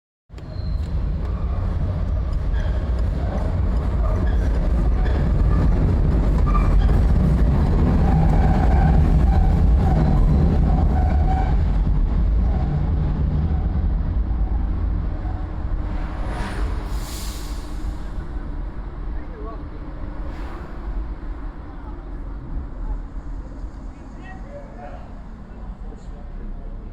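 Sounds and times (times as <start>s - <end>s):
train rumbling past: 0.4s - 26.9s.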